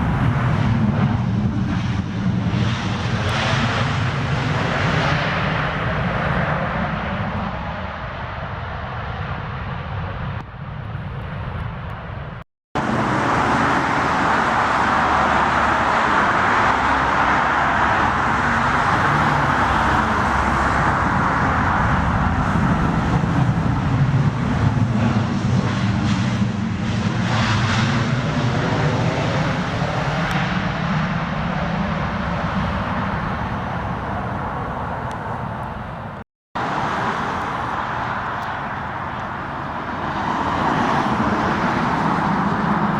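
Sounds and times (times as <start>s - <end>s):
jet aircraft passing: 0.0s - 7.7s, 12.8s - 42.9s.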